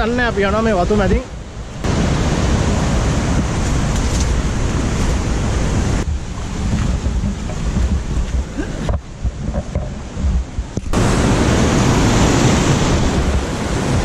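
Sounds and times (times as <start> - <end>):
heavy low rumble: 0.0 - 14.0
wind buffeting microphone: 0.0 - 14.0
fast-flowing stream water: 1.8 - 14.0.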